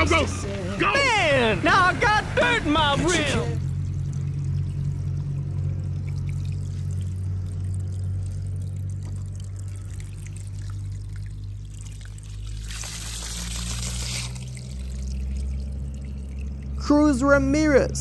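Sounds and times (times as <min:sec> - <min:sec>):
water jet splashing: 0:00.0 - 0:17.3
low hum: 0:00.0 - 0:18.0.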